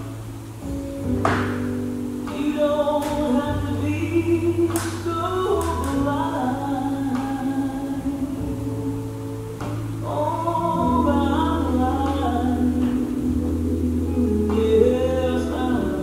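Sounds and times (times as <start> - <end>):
slow background music: 0.0 - 16.0
steady bass: 0.0 - 16.0.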